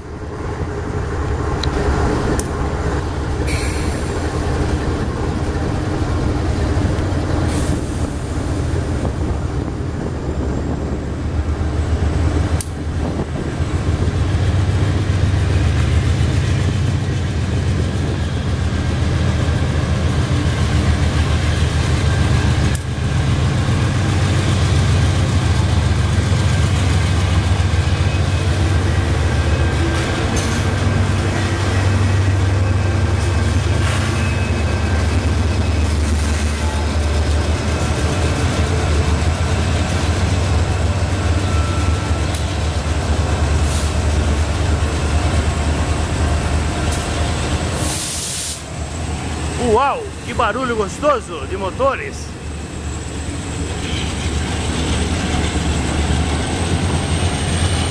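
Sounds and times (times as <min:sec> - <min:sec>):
freight locomotive engine rumble: 0:00.0 - 0:57.9.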